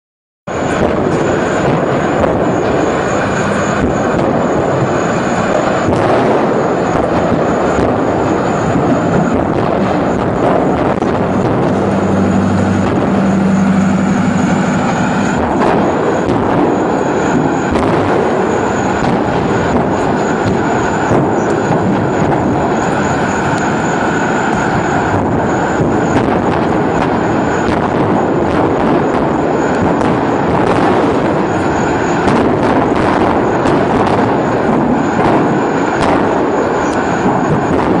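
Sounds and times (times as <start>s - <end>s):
fire pops and crackles: 0.5s - 13.6s, 14.8s - 38.0s
gas fire roaring: 0.5s - 38.0s
low steady hum: 0.5s - 38.0s.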